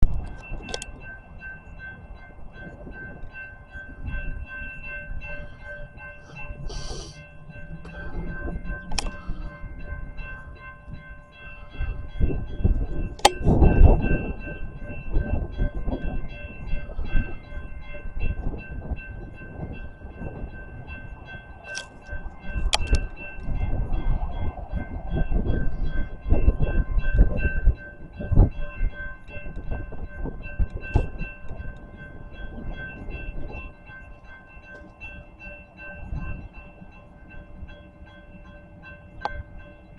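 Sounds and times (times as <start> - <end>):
locomotive rumble: 0.0 - 39.9
steady high-pitched tone: 0.0 - 39.9.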